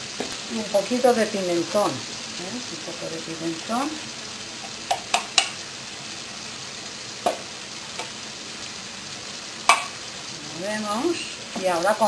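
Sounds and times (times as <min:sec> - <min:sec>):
sofrito sizzling in a frying pan: 0:00.0 - 0:12.0.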